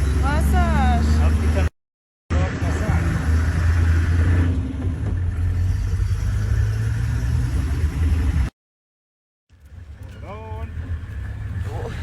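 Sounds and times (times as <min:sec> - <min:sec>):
vehicle engine rumbling under load: 0:00.0 - 0:01.7, 0:02.3 - 0:08.5, 0:09.5 - 0:12.0.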